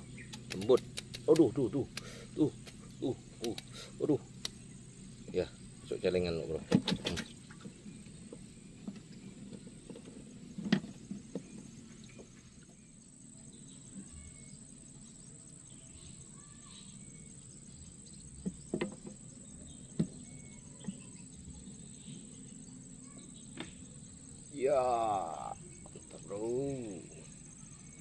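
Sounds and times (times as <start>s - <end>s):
high insect buzz: 0.0s - 28.0s.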